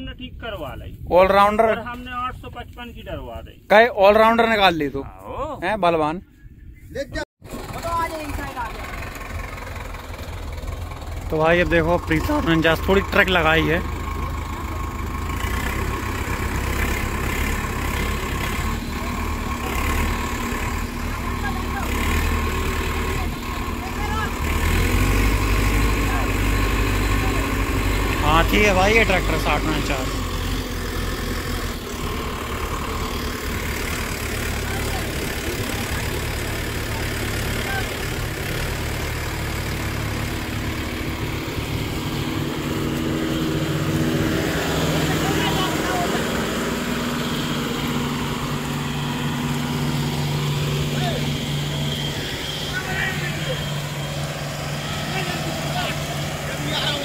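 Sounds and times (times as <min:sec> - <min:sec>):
tractor diesel engine under load: 0:07.4 - 0:57.0.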